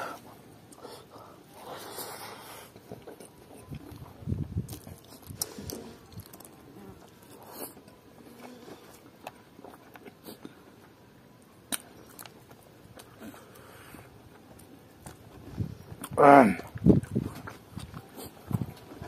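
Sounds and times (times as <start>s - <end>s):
man chewing and smacking lips: 0.1s - 19.0s.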